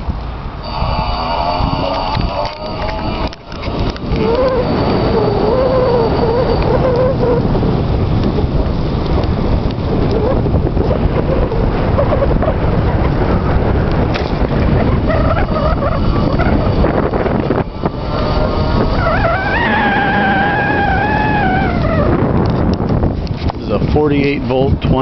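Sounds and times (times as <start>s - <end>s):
wavering whine: 0.0s - 23.5s
wind on microphone: 0.0s - 25.0s
bicycle tyre noise: 0.2s - 24.1s.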